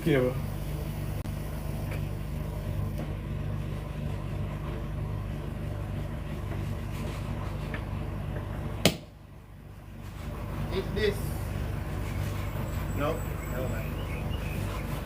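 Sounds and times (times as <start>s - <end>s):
electrical buzz-hum from speaker: 0.0s - 15.0s.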